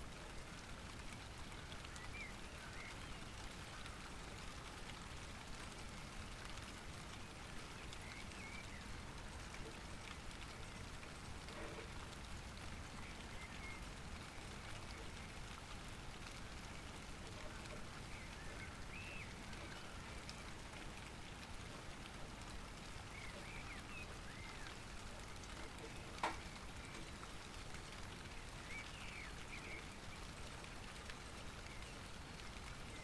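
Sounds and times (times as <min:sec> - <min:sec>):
hiss of falling rain: 0:00.0 - 0:33.0
raindrops ticking: 0:00.0 - 0:33.0.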